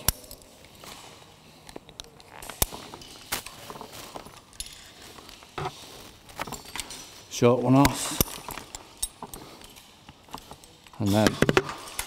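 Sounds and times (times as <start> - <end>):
metal carabiners clinking: 0.0 - 12.0.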